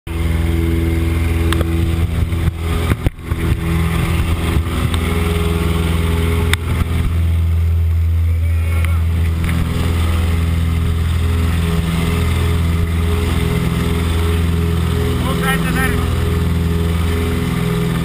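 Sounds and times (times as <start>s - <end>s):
rushing wind: 0.1s - 15.3s
plane engine and propeller drone: 0.1s - 18.0s.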